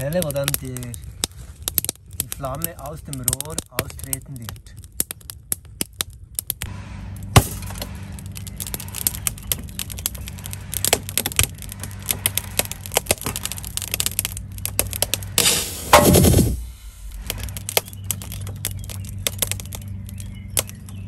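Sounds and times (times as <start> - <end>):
kiln fire drone: 0.0 - 21.0
sharp cracks and pops: 0.0 - 21.0.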